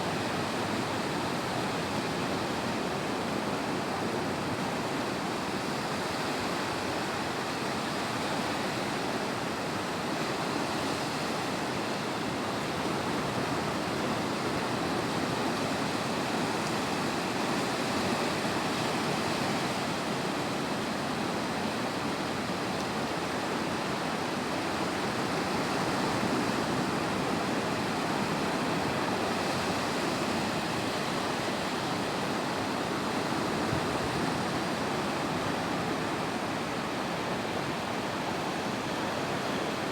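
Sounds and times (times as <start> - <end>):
sea waves breaking on beach: 0.1 - 39.9.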